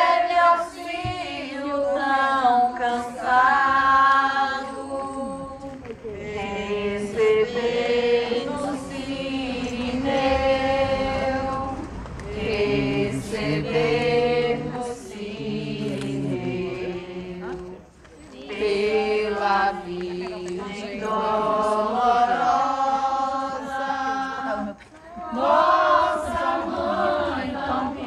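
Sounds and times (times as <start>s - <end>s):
group singing a hymn unaccompanied: 0.0s - 28.0s.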